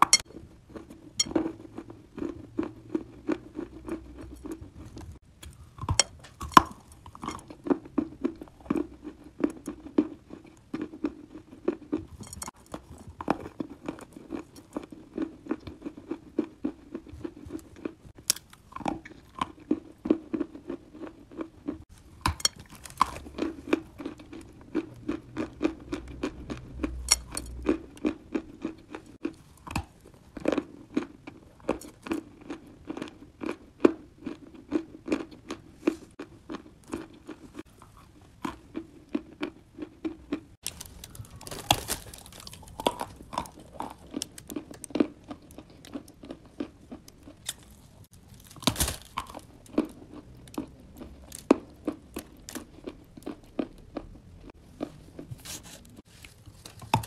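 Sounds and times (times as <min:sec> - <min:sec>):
crunching and chewing clay: 0:00.0 - 0:57.0.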